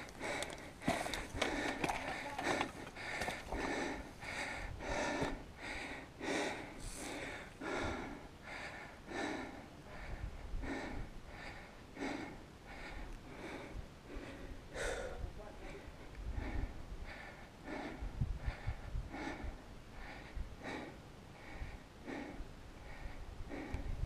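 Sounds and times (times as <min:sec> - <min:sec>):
person breathing heavily: 0:00.0 - 0:24.0.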